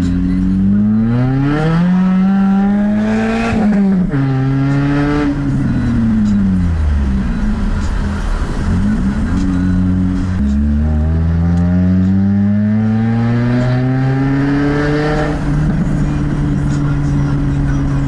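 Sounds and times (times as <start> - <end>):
car engine with open exhaust: 0.0 - 18.0.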